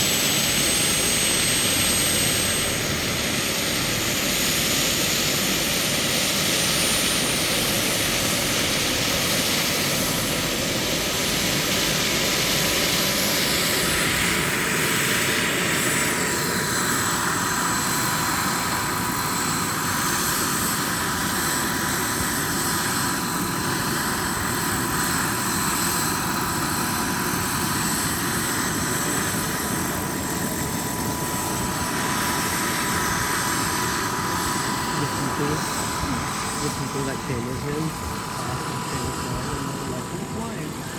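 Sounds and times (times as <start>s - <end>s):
radio-controlled helicopter flying: 0.0s - 40.9s.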